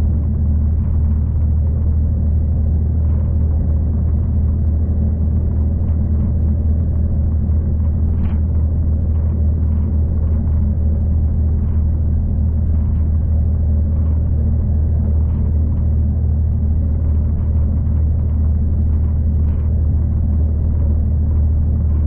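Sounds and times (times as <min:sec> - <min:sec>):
ticks and rattles: 0:00.0 - 0:22.0
train rumbling on track: 0:00.0 - 0:22.0.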